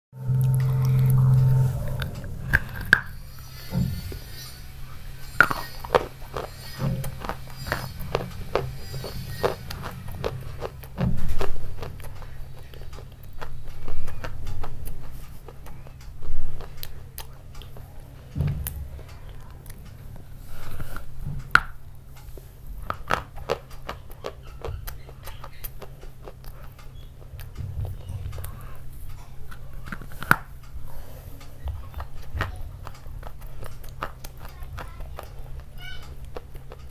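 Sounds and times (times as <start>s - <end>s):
steady low hum: 0.1s - 36.9s
biting and chewing: 0.3s - 36.9s.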